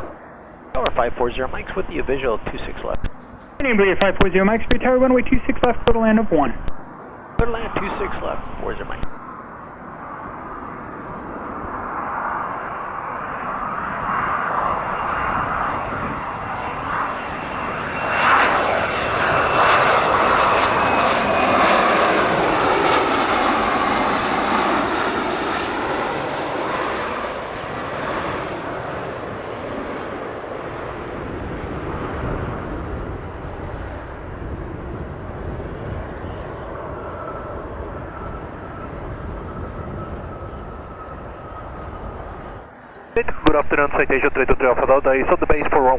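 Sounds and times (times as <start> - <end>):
faint high engine whine: 0.0 - 45.9
jet passing overhead: 0.0 - 45.9.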